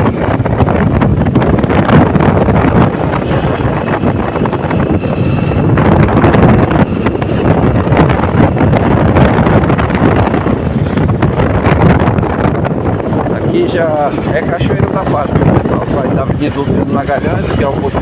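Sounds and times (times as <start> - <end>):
vehicle running noise: 0.0 - 18.0
wind buffeting microphone: 0.0 - 18.0.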